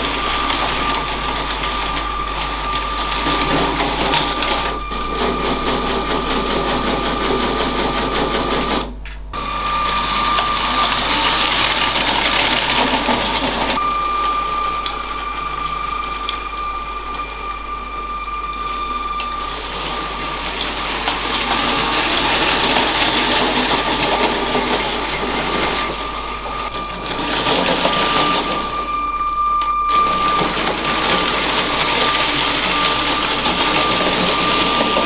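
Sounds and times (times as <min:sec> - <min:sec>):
toy train electric motor whine: 0:00.0 - 0:35.0
wheels rattling on plastic track: 0:00.0 - 0:35.0.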